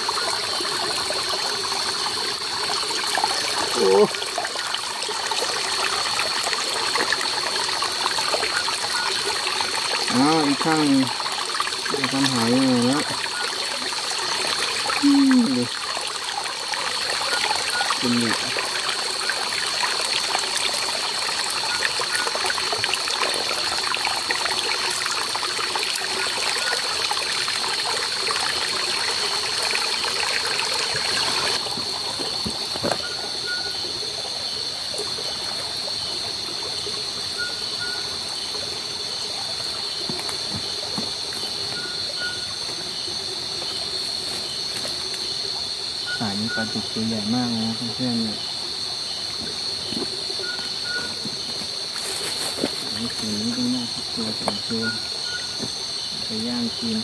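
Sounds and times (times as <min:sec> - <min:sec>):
night insects droning: 0:00.0 - 0:57.0
stream water over rocks: 0:00.0 - 0:57.0.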